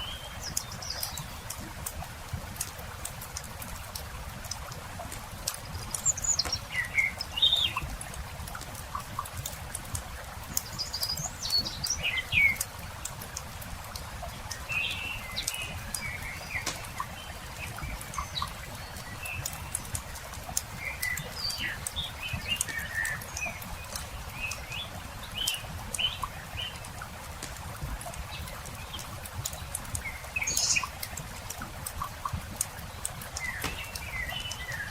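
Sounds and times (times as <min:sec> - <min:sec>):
campfire crackling and popping: 0:00.0 - 0:34.9
songbirds chirping and trilling: 0:00.0 - 0:34.9.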